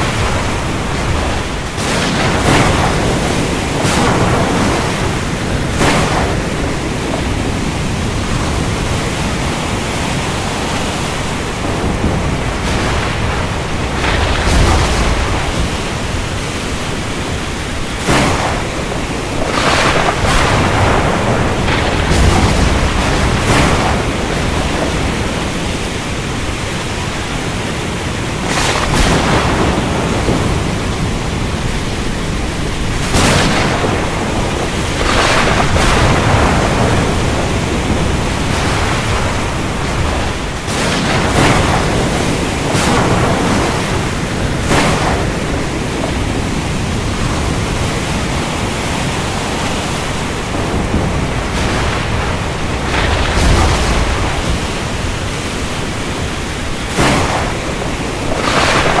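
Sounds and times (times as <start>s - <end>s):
heavy rain hissing: 0.0s - 59.0s
thunder cracks: 0.0s - 59.0s.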